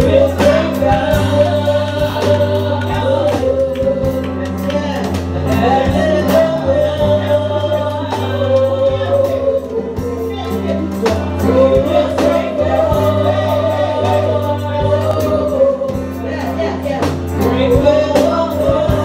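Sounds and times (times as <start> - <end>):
electronic keyboard chords and bass: 0.0 - 19.0
steady beat: 0.0 - 19.0
voices singing gospel: 0.0 - 19.0.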